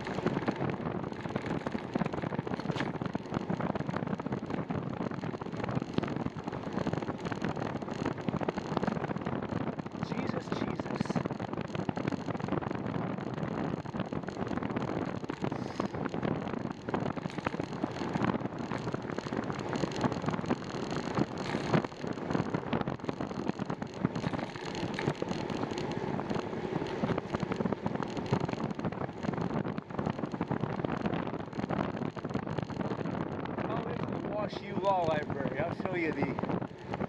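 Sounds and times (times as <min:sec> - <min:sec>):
road and tyre noise: 0:00.0 - 0:37.0
wind rushing over microphone: 0:00.0 - 0:37.0.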